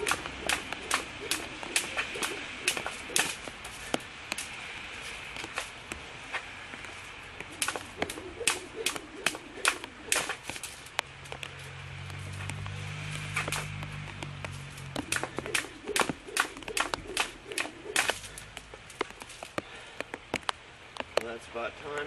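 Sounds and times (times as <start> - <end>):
jump rope slapping the ground: 0.0 - 4.6, 5.3 - 21.3.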